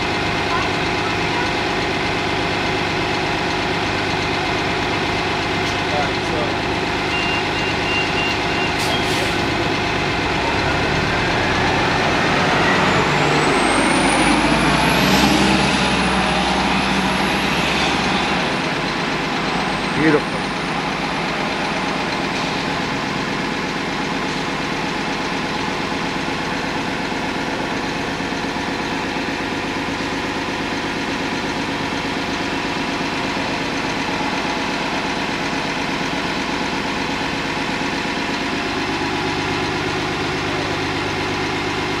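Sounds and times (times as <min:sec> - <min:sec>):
car engine idling: 0:00.0 - 0:08.6, 0:09.4 - 0:15.0, 0:15.6 - 0:42.0.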